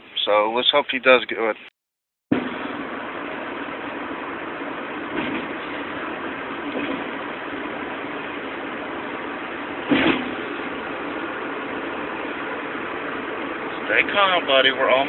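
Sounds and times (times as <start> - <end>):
car cabin road and engine noise: 2.3 - 15.0.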